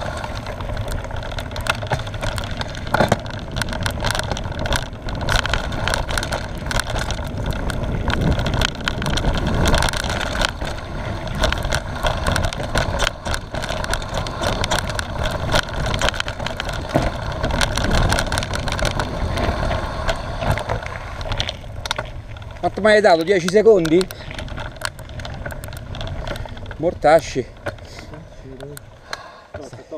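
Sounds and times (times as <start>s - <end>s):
bike rattling over bumps: 0.0s - 29.9s
tyres rumbling on dirt: 0.0s - 29.9s.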